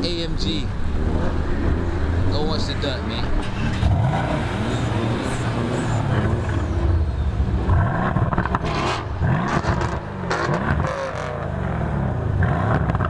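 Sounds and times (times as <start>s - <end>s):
car engine revving: 0.0s - 13.0s
exhaust crackles: 0.8s - 13.0s.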